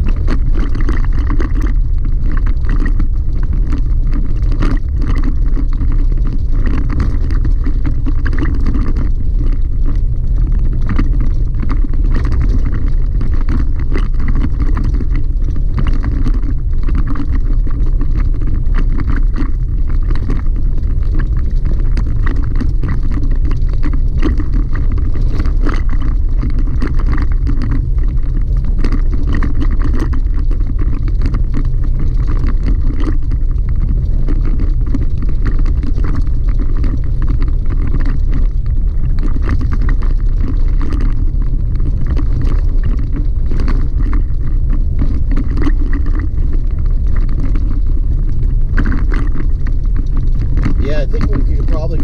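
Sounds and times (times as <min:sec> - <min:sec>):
tyres rumbling on loose gravel: 0:00.0 - 0:52.0.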